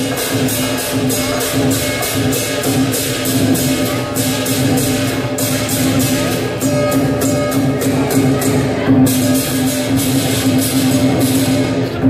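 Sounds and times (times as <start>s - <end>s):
cymbals clashing: 0.0s - 12.0s
drum: 0.0s - 12.0s.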